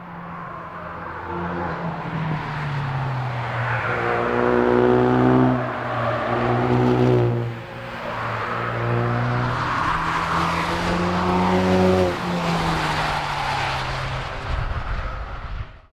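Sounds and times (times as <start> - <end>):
car engine accelerating past: 1.4 - 15.5.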